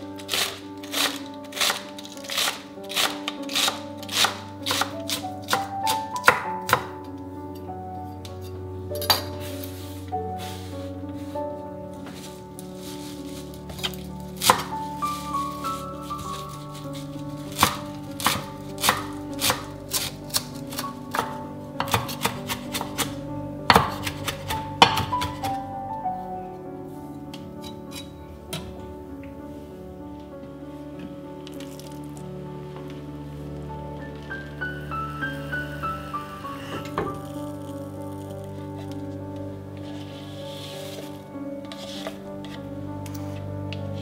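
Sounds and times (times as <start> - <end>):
background music: 0.0 - 44.0.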